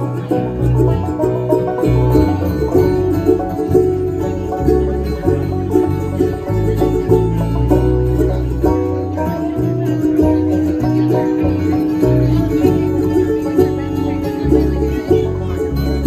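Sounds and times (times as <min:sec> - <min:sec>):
acoustic guitar: 0:00.0 - 0:16.0
banjo rolls: 0:00.0 - 0:16.0
mandolin: 0:00.0 - 0:16.0
walking electric bass line: 0:00.0 - 0:16.0.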